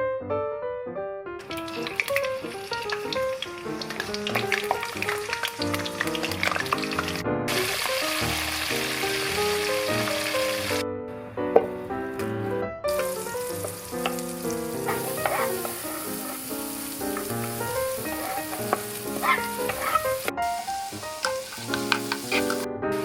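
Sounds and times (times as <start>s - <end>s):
background music melody: 0.5s - 23.0s
food sizzling in a pan: 1.4s - 10.8s, 12.9s - 23.0s.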